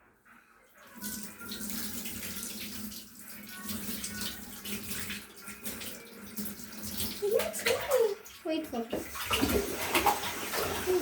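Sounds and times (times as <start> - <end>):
tap water pouring into bath: 0.8 - 11.0.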